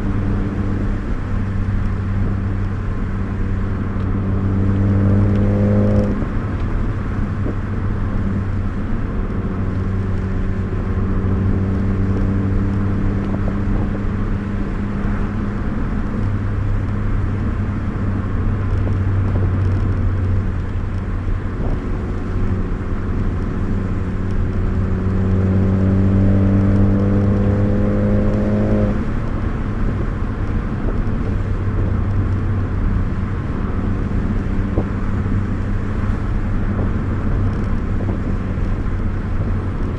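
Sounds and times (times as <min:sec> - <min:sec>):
car engine: 0:00.0 - 0:39.9
road noise inside car: 0:00.0 - 0:39.9.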